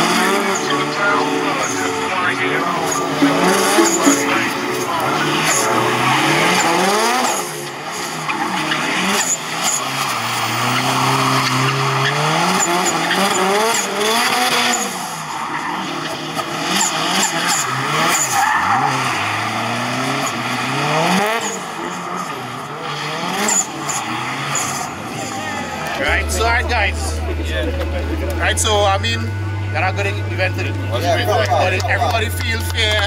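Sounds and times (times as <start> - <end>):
tyres screeching on asphalt: 0.0 - 27.3
car engine revving hard: 0.0 - 31.8.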